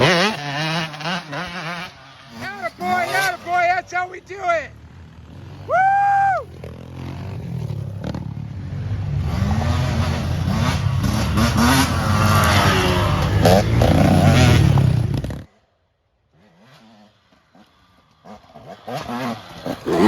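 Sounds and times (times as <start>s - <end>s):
engine running and revving: 0.0s - 3.6s, 4.8s - 15.5s, 16.3s - 20.0s.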